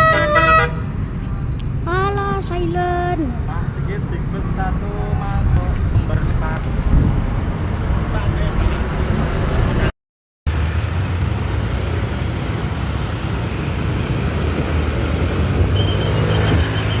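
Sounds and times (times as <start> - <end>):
road traffic noise: 0.0 - 9.9, 10.5 - 17.0.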